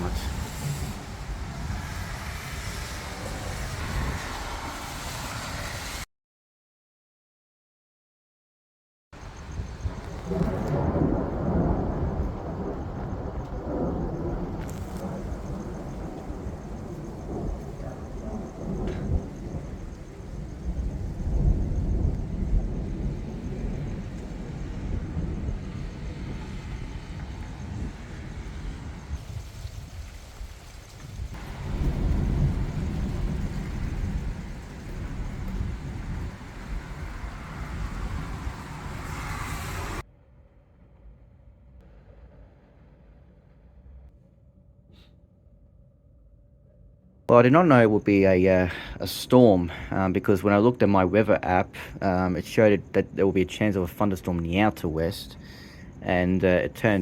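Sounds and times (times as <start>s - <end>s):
even hiss of rain: 0.0s - 6.0s, 9.2s - 40.0s, 47.3s - 57.0s
low thunder rumble: 0.0s - 6.0s, 9.2s - 44.2s, 47.3s - 57.0s.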